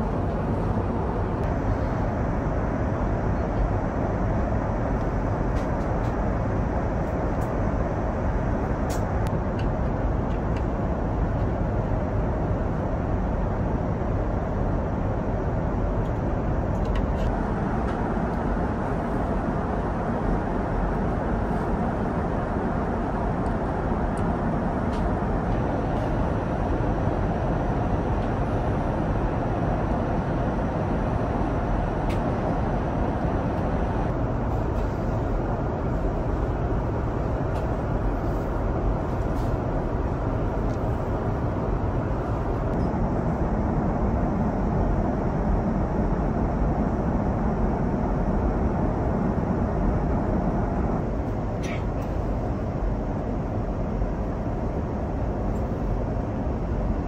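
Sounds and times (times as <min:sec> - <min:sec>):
airliner cabin noise: 0:00.0 - 0:57.0.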